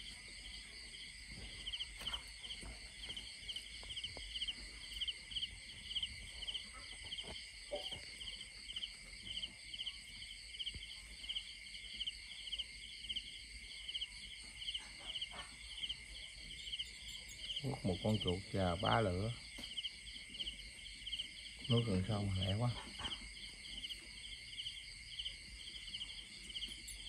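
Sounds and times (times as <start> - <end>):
insects droning: 0.0 - 27.0
rhythmic insect chirping: 0.0 - 27.0.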